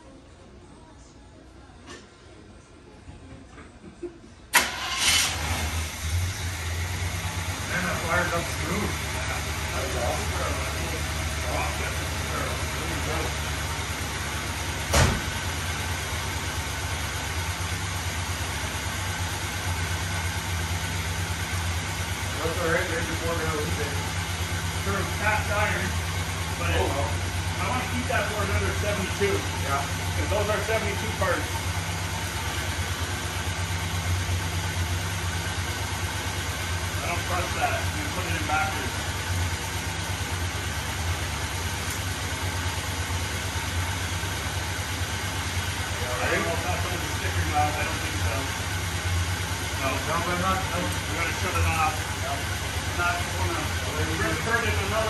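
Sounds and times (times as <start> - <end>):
truck engine idling: 4.5 - 55.0.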